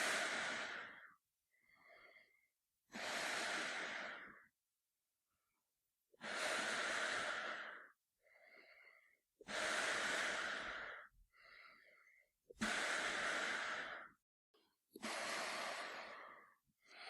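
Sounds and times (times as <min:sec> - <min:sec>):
man breathing through gas mask: 0:00.0 - 0:04.5, 0:06.2 - 0:14.2, 0:15.0 - 0:17.0.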